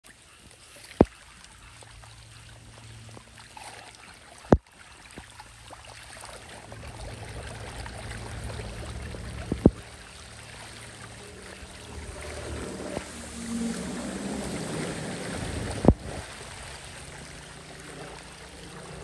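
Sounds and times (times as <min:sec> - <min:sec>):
water trickling and sloshing: 0:00.0 - 0:19.0
water rushing into drain: 0:00.1 - 0:19.0.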